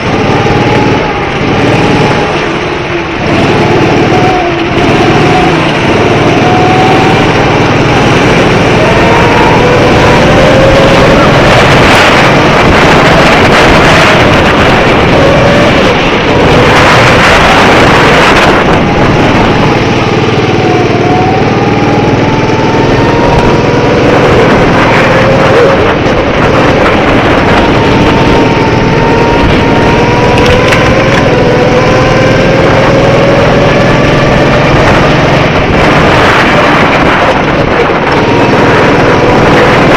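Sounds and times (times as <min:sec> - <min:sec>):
go-kart engine running hard: 0:00.0 - 0:39.9
loud rushing noise: 0:00.0 - 0:39.9.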